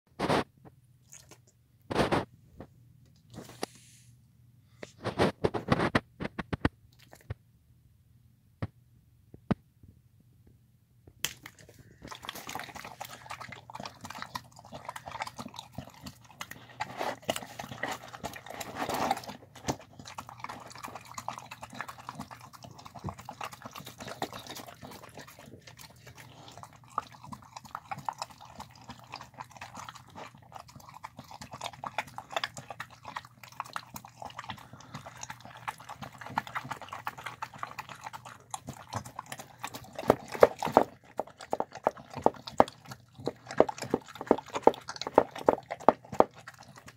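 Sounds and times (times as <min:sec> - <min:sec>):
dog chewing and lapping food: 0:00.2 - 0:02.3, 0:04.8 - 0:07.4, 0:11.3 - 0:46.9.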